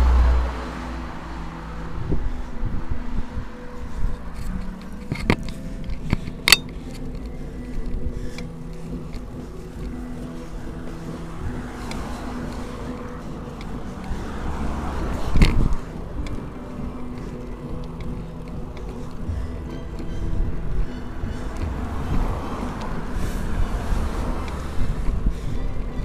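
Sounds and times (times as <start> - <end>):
car passing by: 0.0 - 26.0
wind rumble on microphone: 0.0 - 26.0.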